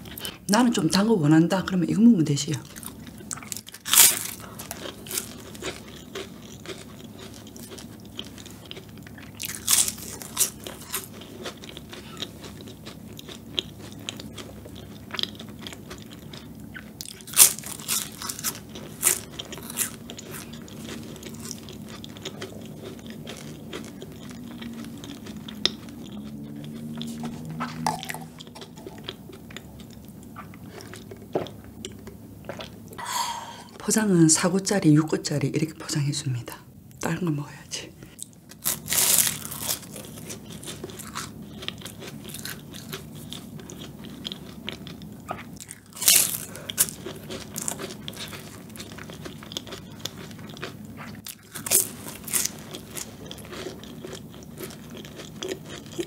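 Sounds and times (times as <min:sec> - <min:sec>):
chewing: 0:02.6 - 0:32.8, 0:38.1 - 0:56.0
pastry crunching when bitten: 0:02.7 - 0:32.7, 0:38.2 - 0:56.0.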